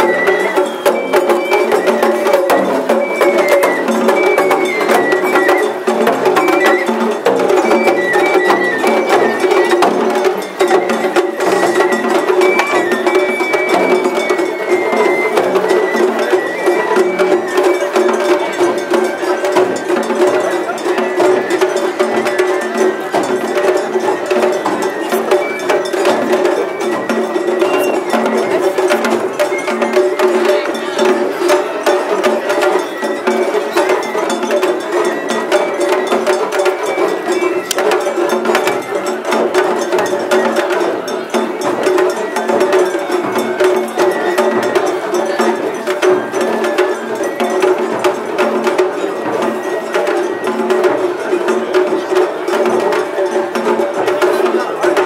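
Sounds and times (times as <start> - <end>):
metallic clanging percussion: 0.0 - 55.0
taiko drums: 0.0 - 55.0.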